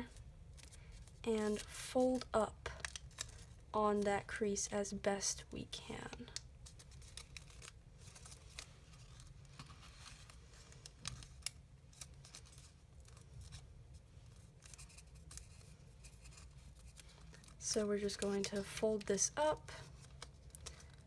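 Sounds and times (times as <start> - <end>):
low background hum: 0.0 - 21.0
paper crinkling while folded: 0.0 - 21.0.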